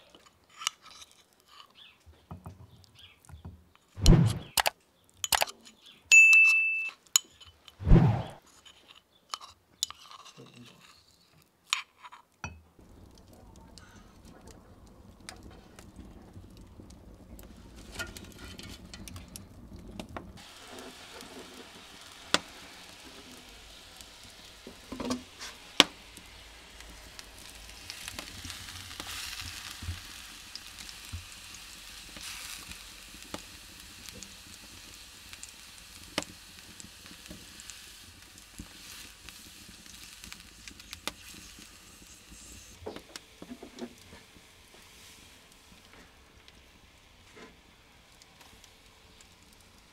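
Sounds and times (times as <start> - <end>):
burning wood crackling: 0.0 - 2.0, 2.7 - 6.0, 7.0 - 8.9, 12.7 - 49.9
water boiling with sizzling hiss: 0.0 - 4.6, 12.4 - 49.9.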